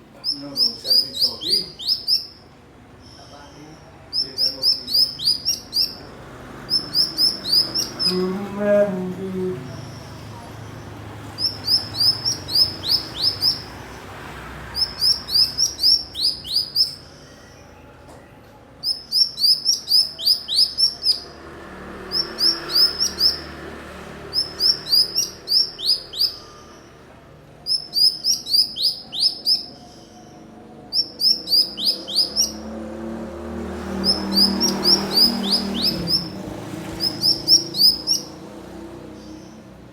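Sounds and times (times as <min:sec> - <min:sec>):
songbird singing chirps: 0:00.0 - 0:39.9.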